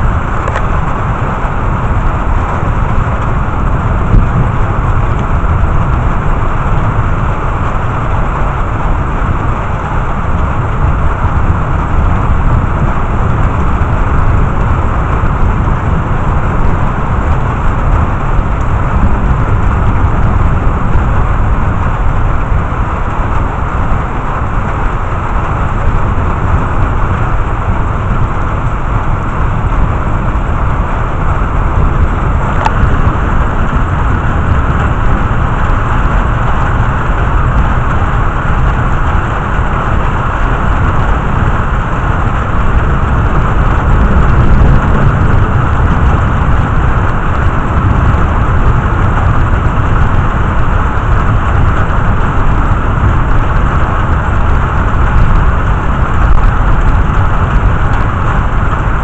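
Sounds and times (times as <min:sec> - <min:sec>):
deep low rumble: 0:00.0 - 0:59.0
heavy rain rushing: 0:00.0 - 0:59.0.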